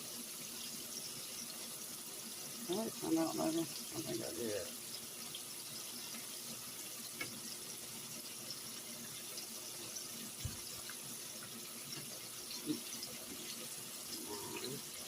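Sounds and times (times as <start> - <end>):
shrimp sizzling in hot oil: 0.0 - 15.0.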